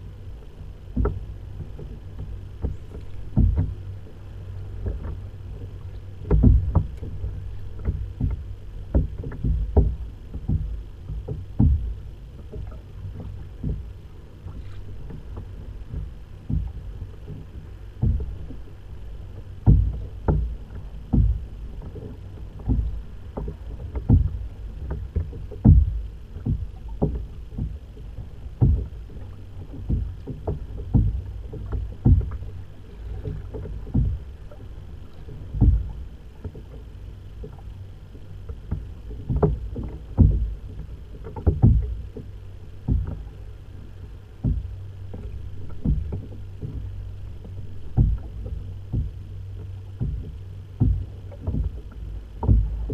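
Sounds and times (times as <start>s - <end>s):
low rumble of water and wind: 0.0s - 52.9s
waves slapping kayak hull: 0.0s - 52.9s.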